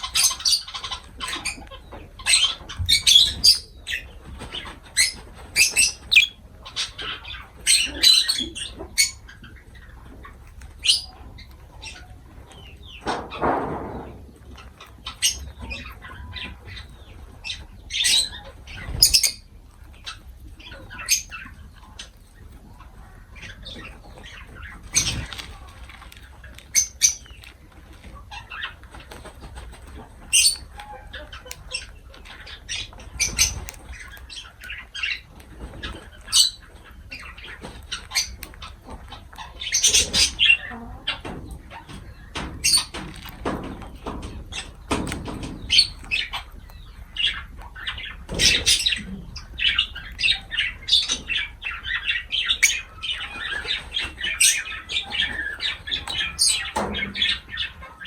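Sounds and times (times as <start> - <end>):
lovebirds chirping and squawking: 0.0 - 58.0
wings fluttering: 0.0 - 58.0.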